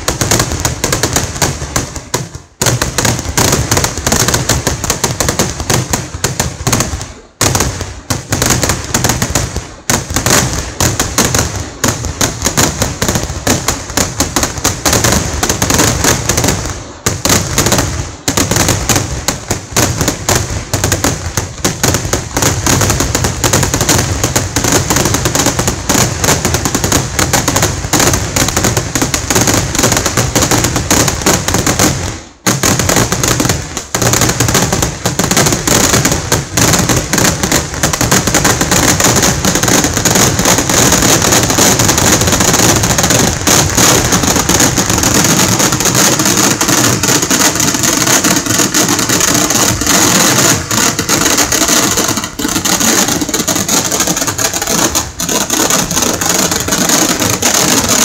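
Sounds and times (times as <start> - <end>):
firecracker explosions: 0.0 - 58.0.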